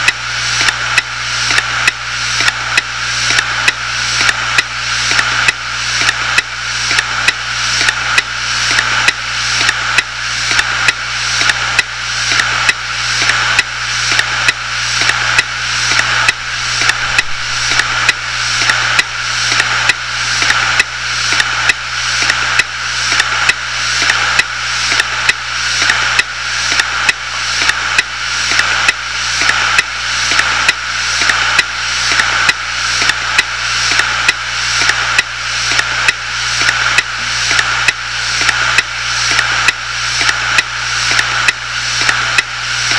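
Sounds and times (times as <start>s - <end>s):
hard drive platters whirring: 0.0s - 42.9s.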